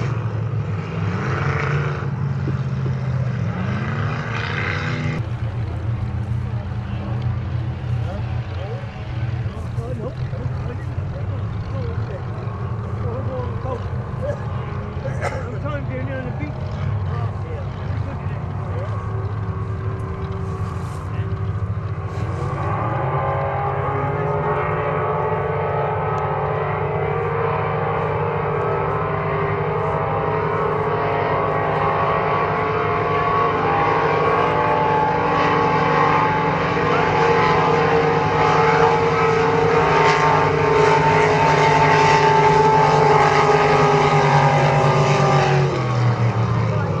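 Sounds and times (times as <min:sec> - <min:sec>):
motorboat engines at full throttle: 0:00.0 - 0:47.0.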